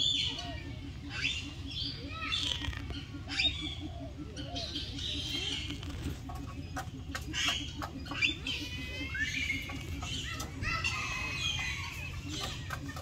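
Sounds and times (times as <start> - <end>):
birds chirping and calling: 0.0 - 13.0
low steady pulsing: 0.0 - 13.0.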